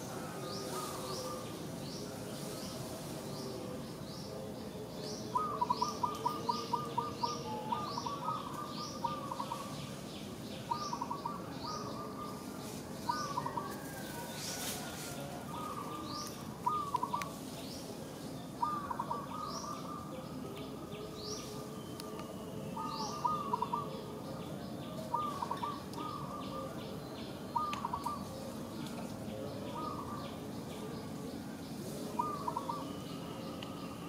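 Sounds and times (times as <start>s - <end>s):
bird calls: 0.0s - 34.0s
steady background hiss: 0.0s - 34.0s.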